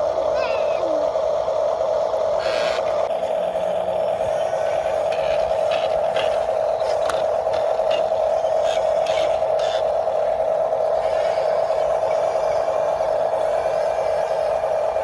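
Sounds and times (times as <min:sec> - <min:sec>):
small electric motor drone: 0:02.2 - 0:15.0.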